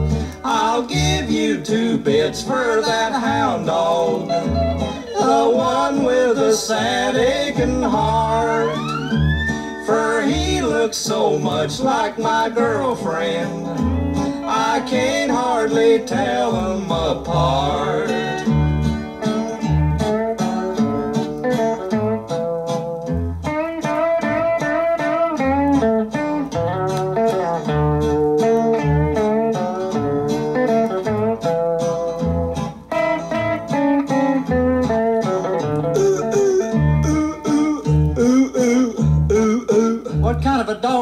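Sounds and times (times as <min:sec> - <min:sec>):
alternating bass line: 0:00.0 - 0:00.4, 0:03.3 - 0:10.8, 0:12.6 - 0:40.6
guitar picking a melody: 0:00.0 - 0:41.0.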